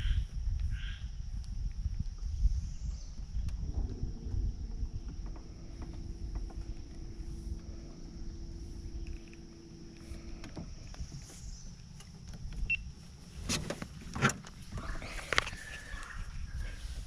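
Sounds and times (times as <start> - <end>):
low handling noise rumble: 0.0 - 17.0.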